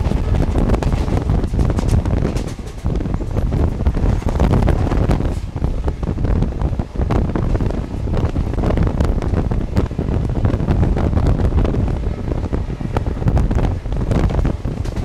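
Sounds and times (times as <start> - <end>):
train wheels rumbling on track: 0.0 - 15.0
wind buffeting the microphone: 0.0 - 15.0.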